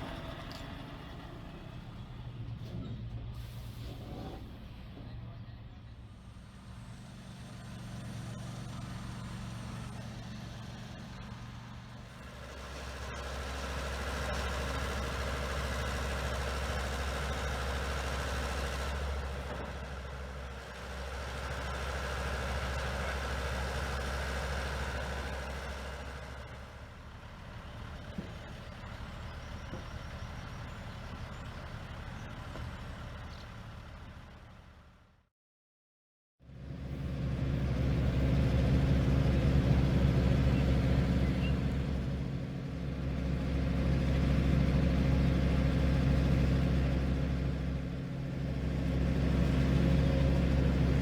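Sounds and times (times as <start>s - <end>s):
diesel truck engine running: 0.0s - 35.2s, 36.5s - 51.0s.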